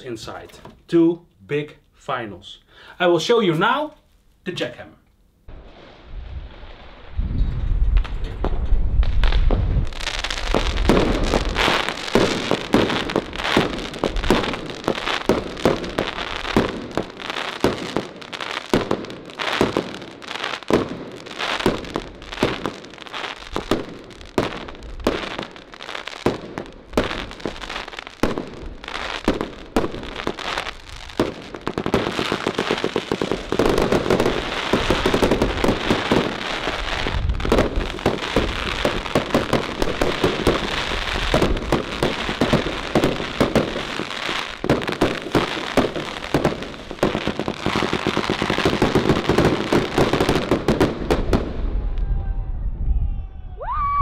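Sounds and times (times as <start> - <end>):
fireworks shots crackling: 5.5 - 51.8.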